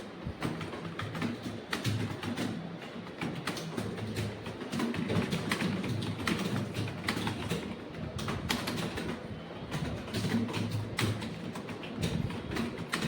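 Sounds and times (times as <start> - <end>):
fast keyboard typing: 0.0 - 13.0.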